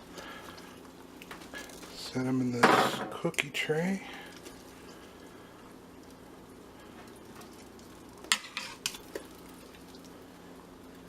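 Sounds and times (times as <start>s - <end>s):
faint hum: 0.0s - 11.0s
steady low hiss: 0.0s - 11.0s.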